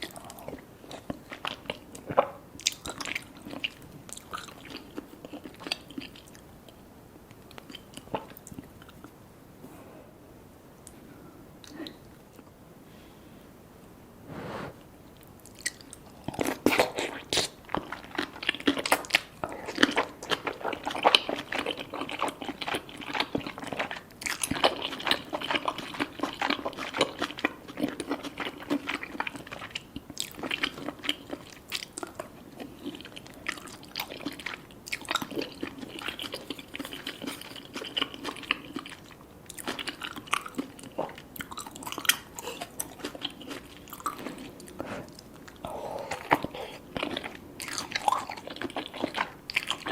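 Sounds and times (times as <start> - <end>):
chewing and biting: 0.0 - 6.8, 15.4 - 49.9.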